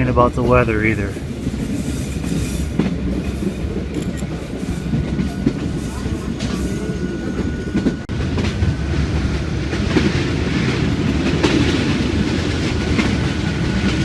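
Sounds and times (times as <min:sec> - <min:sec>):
train carriage rumble: 0:00.0 - 0:14.0
wheels clacking over rails: 0:00.0 - 0:14.0.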